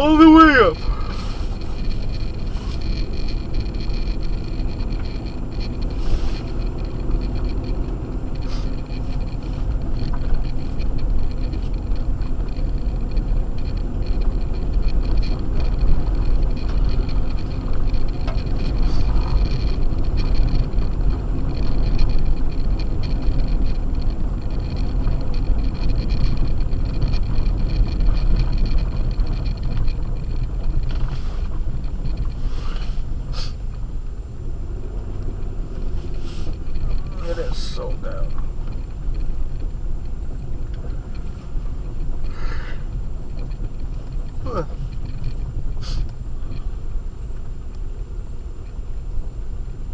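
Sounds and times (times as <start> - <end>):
tyre and engine rumble on snow: 0.0 - 49.9.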